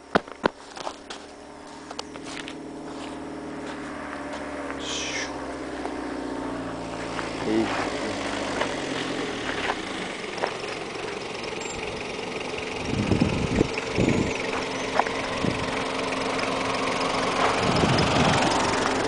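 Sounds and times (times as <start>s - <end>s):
van engine running: 0.0s - 19.0s.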